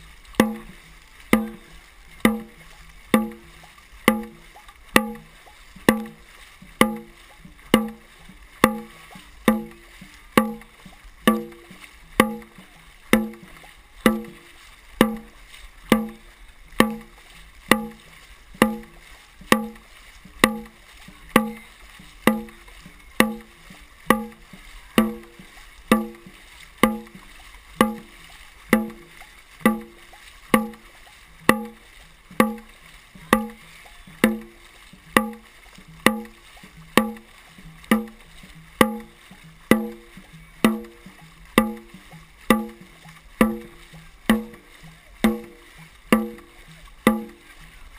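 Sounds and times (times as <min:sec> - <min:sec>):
drum beating steadily: 0:00.0 - 0:47.9.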